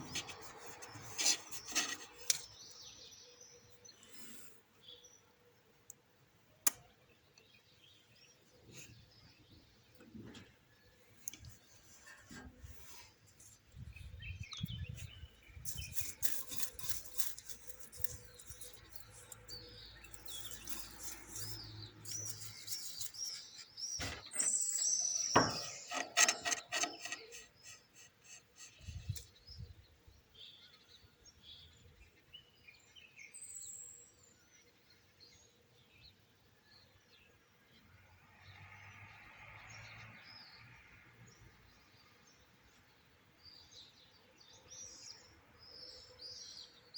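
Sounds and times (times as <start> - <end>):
small birds chirping: 0.0 - 37.9, 39.6 - 46.9.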